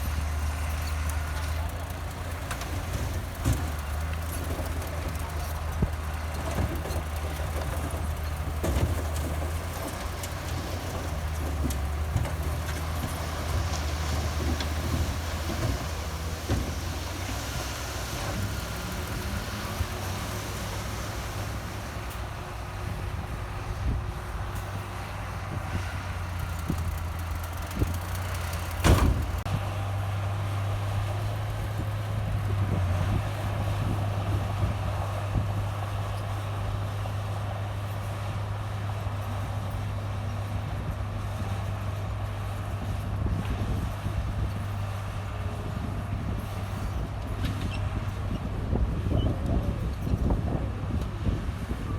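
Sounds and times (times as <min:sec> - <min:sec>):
bulldozer diesel engine: 0:00.0 - 0:51.9.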